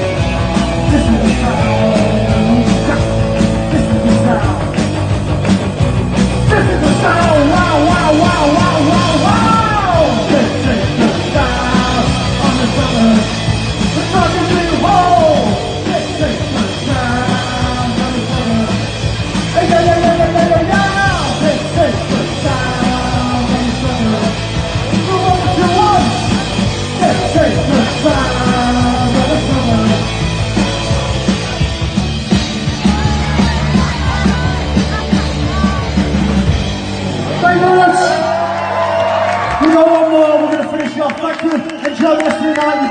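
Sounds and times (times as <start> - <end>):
pitch-bending melody line: 0.0 - 38.0
punk rock band playing: 0.0 - 42.9.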